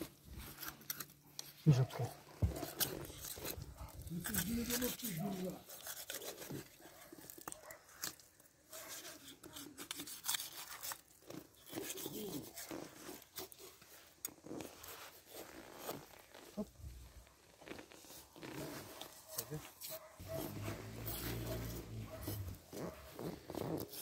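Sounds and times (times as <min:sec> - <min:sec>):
knife scraping meat and bone: 0:00.4 - 0:01.6, 0:02.2 - 0:16.1, 0:19.3 - 0:24.0.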